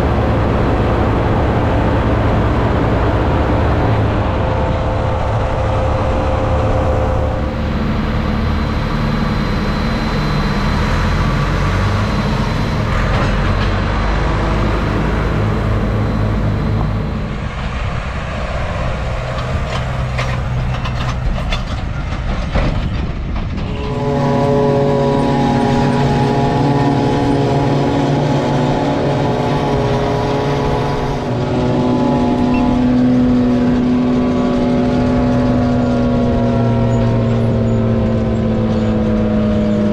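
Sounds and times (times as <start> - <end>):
forage harvester humming: 0.0 - 22.9, 23.5 - 39.9
tractors and machinery running: 0.0 - 39.9.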